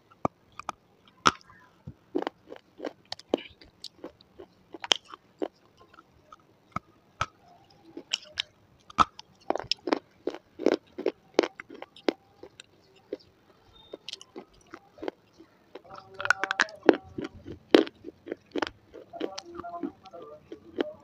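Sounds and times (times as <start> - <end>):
crunching and chewing: 0.1 - 21.0.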